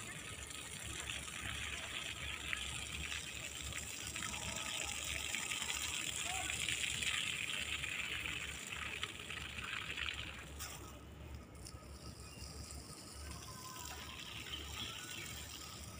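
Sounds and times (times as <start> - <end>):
garden hose spraying water: 0.0 - 15.9.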